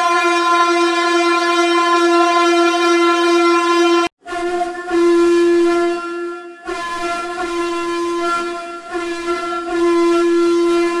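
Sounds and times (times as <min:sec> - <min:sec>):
truck air horn blast: 0:00.0 - 0:11.0.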